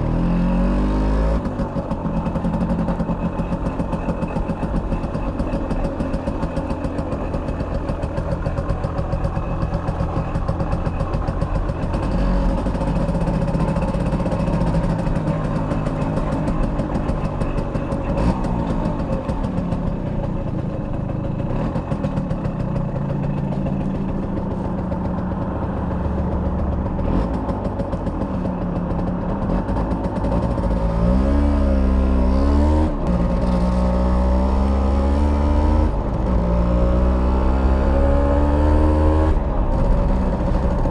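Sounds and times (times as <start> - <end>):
moped two-stroke engine revving: 0.0 - 40.9.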